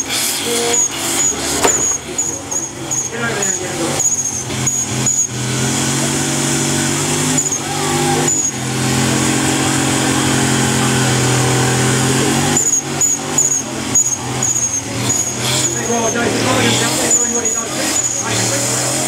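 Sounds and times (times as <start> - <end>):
spinning tyres hissing: 0.0 - 19.0
engine revving high: 0.7 - 19.0.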